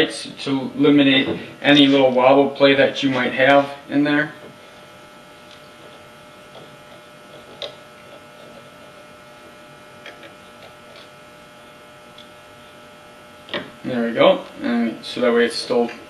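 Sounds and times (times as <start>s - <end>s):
faint electric hum: 0.0s - 16.0s.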